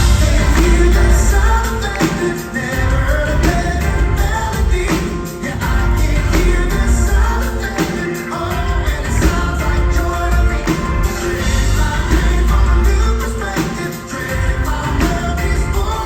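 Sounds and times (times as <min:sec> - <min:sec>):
person singing: 0:00.0 - 0:16.0
pop-gospel band music: 0:00.0 - 0:16.0.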